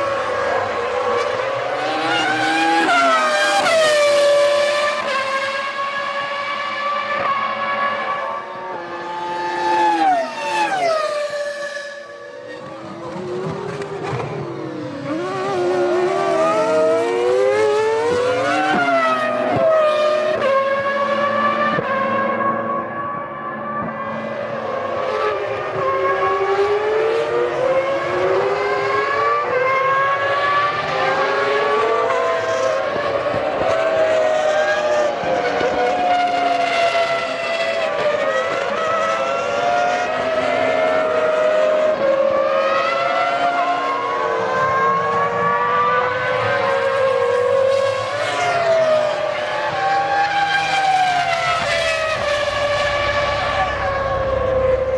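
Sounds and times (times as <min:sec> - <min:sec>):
racing car engines high-pitched: 0:00.0 - 0:54.9.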